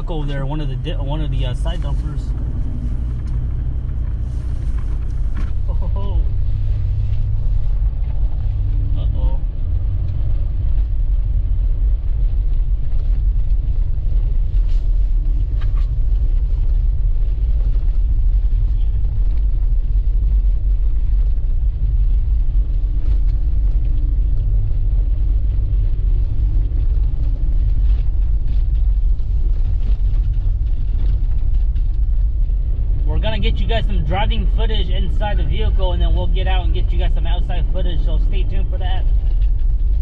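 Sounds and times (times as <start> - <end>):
car driving through snow: 0.0 - 40.0.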